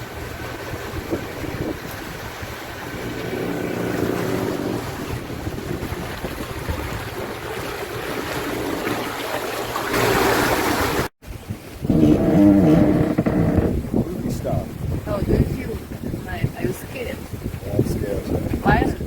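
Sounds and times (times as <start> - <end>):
sea water rushing: 0.0 - 19.0
wind buffeting microphone: 0.0 - 19.0.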